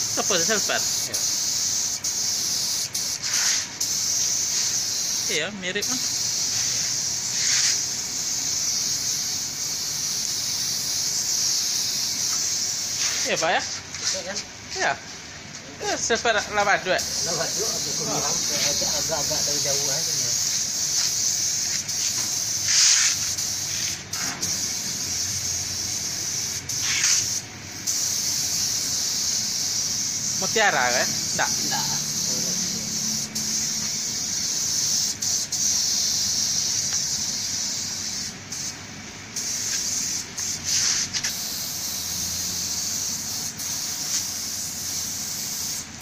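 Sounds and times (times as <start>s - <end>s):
paint spray gun hissing: 0.0s - 14.4s, 16.4s - 46.0s.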